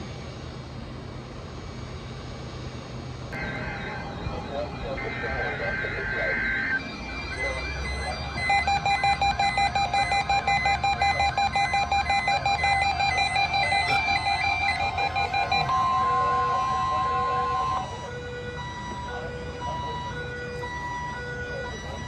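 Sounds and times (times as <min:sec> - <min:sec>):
steady warning alarm tone: 0:03.2 - 0:22.0
pulsing electronic alert tone: 0:03.4 - 0:21.0
buzzing data burst: 0:03.4 - 0:22.0.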